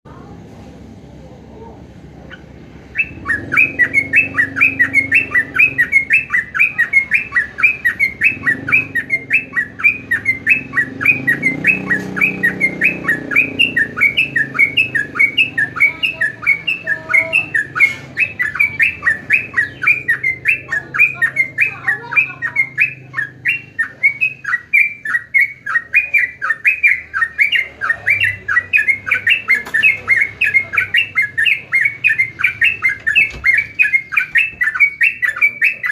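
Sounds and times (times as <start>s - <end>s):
bird chirping song: 1.6s - 35.9s.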